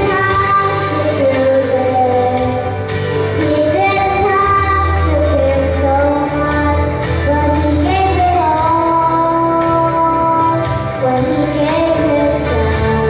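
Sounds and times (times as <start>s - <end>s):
accompanying music: 0.0s - 13.0s
girl singing into a microphone: 0.0s - 13.0s.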